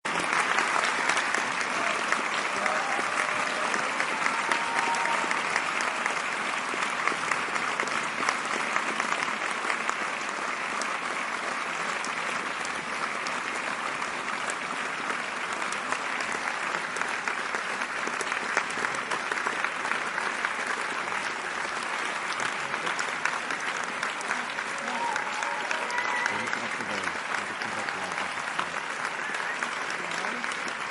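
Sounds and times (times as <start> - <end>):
audience applauding: 0.0 - 30.9
murmur of voices: 0.1 - 30.9.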